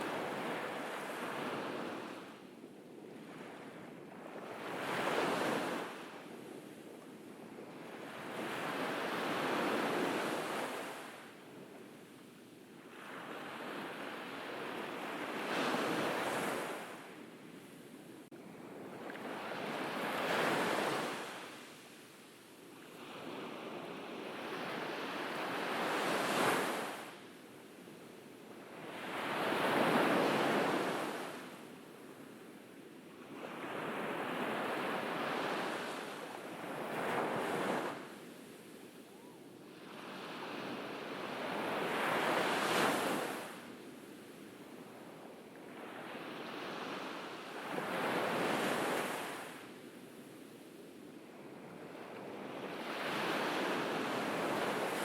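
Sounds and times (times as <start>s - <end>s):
ocean waves breaking on beach: 3.1s - 12.1s, 12.8s - 32.4s, 33.2s - 55.0s.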